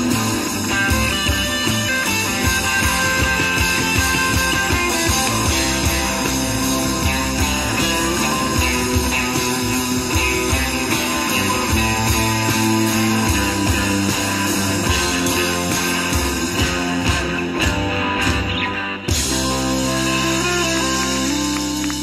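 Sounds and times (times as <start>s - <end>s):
live folk-rock band playing: 0.0s - 22.0s.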